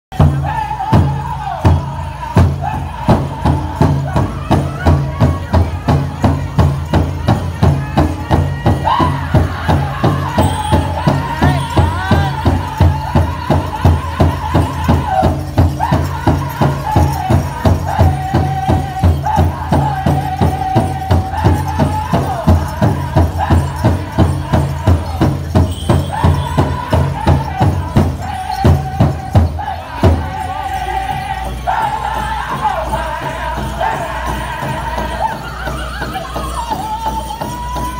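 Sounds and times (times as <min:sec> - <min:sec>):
bells jingling: 0:00.1 - 0:37.9
big drum fast beat: 0:00.1 - 0:37.9
high held singing voices: 0:00.1 - 0:37.9.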